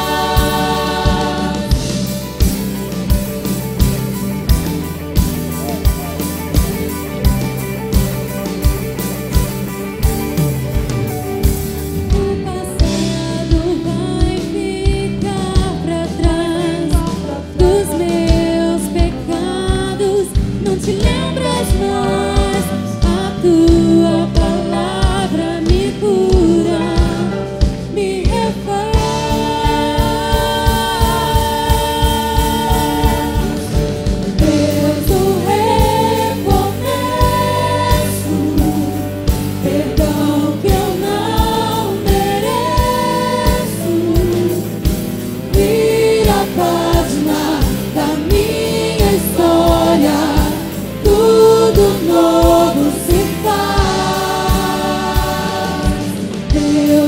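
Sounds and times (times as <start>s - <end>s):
gospel singers with band: 0.0s - 57.0s
steady drum beat: 0.0s - 57.0s.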